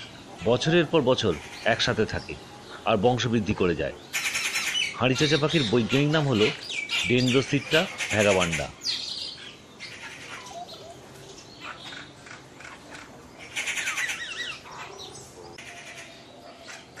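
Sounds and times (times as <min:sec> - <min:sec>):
birds chirping and whistling: 0:00.0 - 0:17.0.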